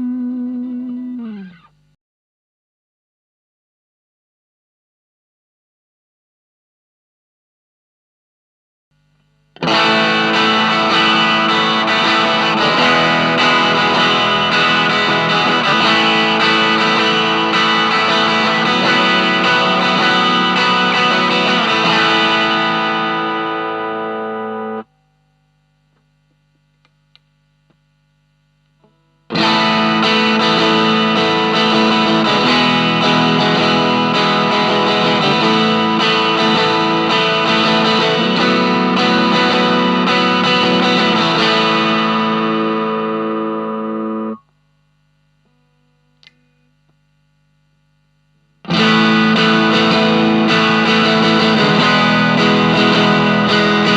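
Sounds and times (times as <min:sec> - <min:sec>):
distorted electric guitar chords: 0:00.0 - 0:02.0, 0:09.0 - 0:53.9
low amp hum: 0:00.0 - 0:02.0, 0:08.9 - 0:53.9.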